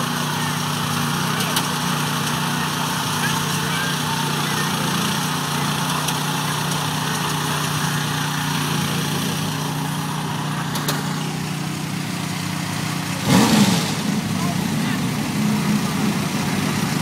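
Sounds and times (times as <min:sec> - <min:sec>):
garden tractor engine running: 0:00.0 - 0:17.0.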